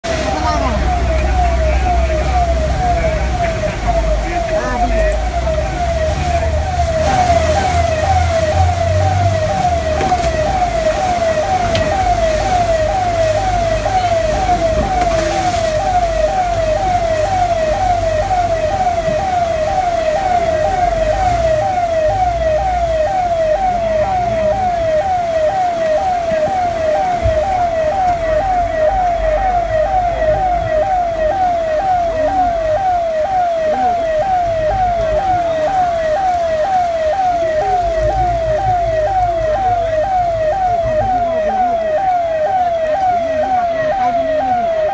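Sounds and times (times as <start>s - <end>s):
low traffic rumble: 0.0s - 44.9s
siren wailing: 0.0s - 44.9s.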